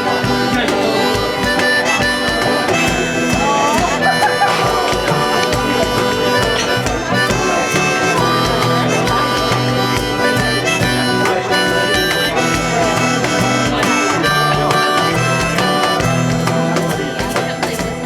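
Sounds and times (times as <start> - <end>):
guitar accompaniment: 0.0 - 18.0
reedy lead melody instrument: 0.0 - 18.0.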